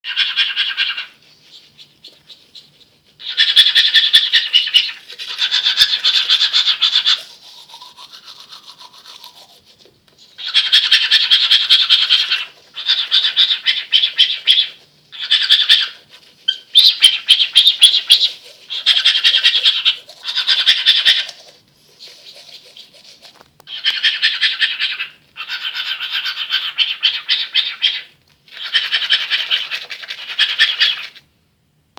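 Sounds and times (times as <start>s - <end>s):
cockatiel making rasping pulses: 0.1s - 27.8s.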